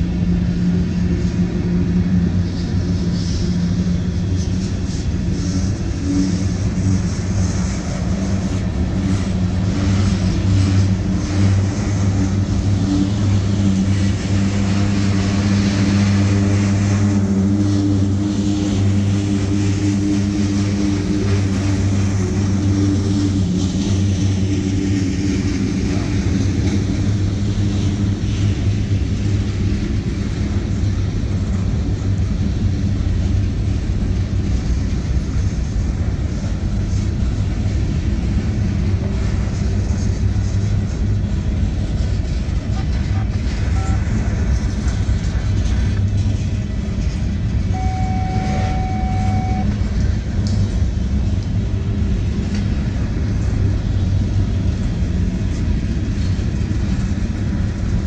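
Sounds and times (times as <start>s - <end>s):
low hum: 0.0s - 58.0s
train wheels rumbling on rail: 0.0s - 58.0s.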